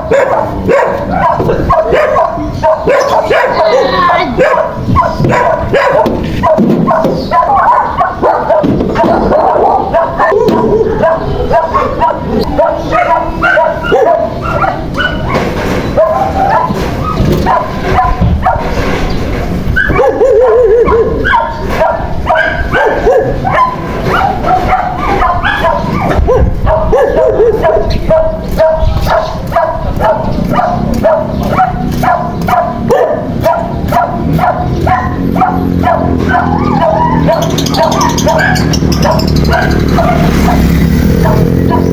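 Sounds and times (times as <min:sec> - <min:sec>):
dogs barking and whining: 0:00.0 - 0:41.9.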